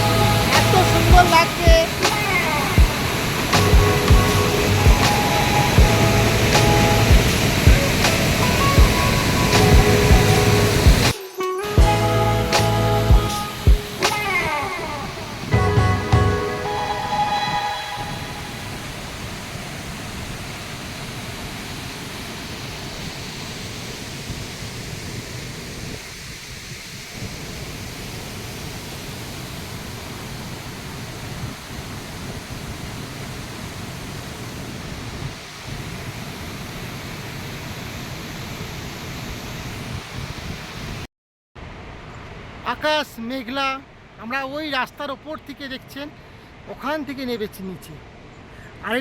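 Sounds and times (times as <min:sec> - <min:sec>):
waterfall rushing: 0:00.0 - 0:41.1.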